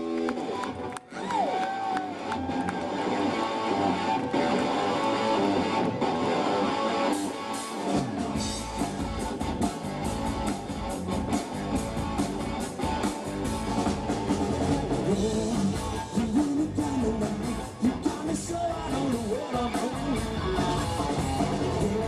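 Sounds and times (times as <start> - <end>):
electric guitar: 0.0 - 22.0
live rock band playing: 2.1 - 22.0.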